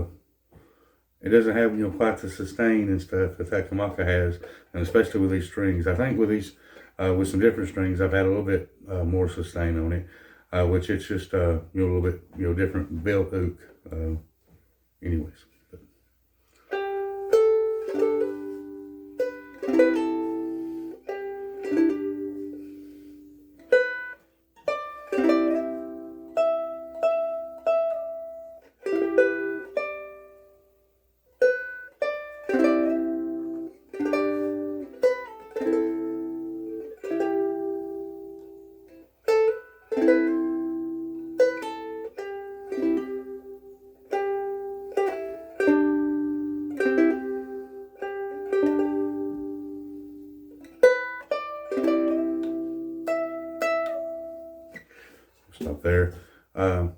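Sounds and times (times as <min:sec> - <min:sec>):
ukulele playing slow tune: 0:00.0 - 0:08.9, 0:15.7 - 0:55.4.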